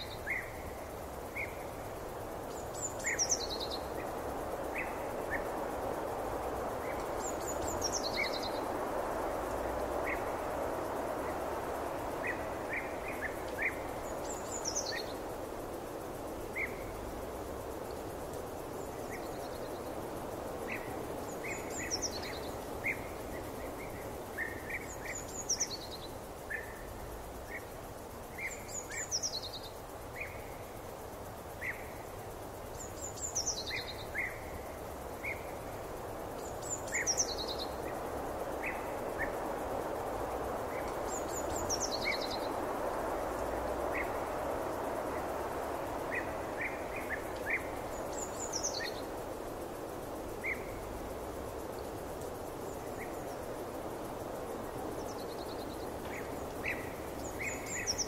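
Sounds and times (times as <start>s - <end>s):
soft forest rush: 0.0s - 58.0s.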